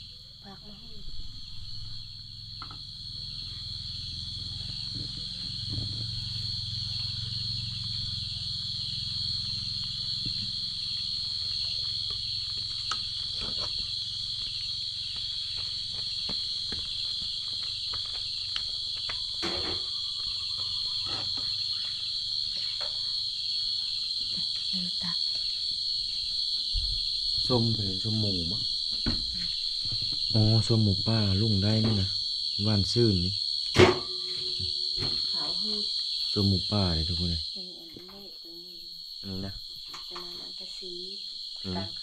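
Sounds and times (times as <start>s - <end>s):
crickets trilling: 0.0s - 42.0s.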